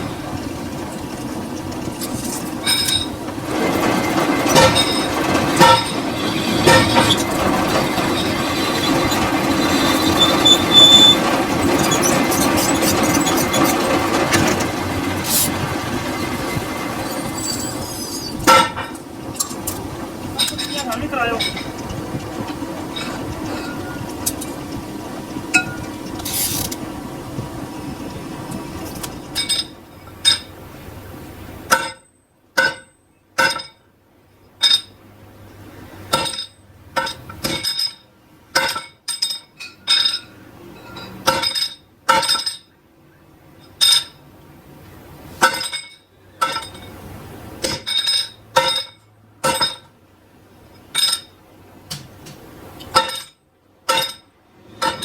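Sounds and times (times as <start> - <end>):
workshop machine running: 0.0 - 32.0, 34.5 - 55.0.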